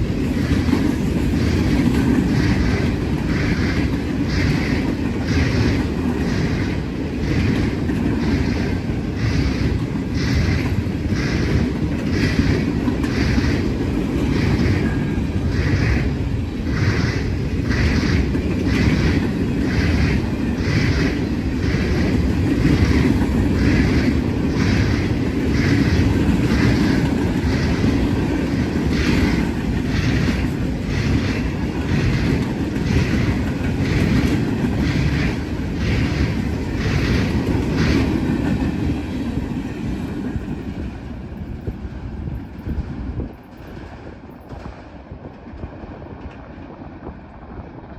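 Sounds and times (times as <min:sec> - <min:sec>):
wheels clicking over rail joints: 0:00.0 - 0:46.8
train rumbling past: 0:00.0 - 0:47.9.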